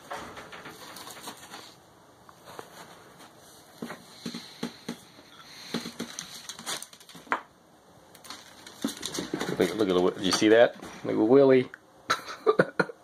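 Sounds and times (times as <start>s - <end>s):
chinchillas tapping and scuffling: 0.0s - 7.5s, 8.2s - 11.1s.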